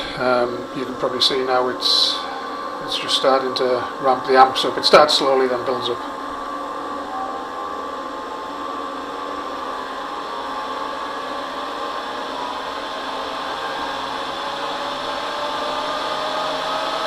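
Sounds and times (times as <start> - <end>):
hairdryer motor whirring: 0.0 - 17.0.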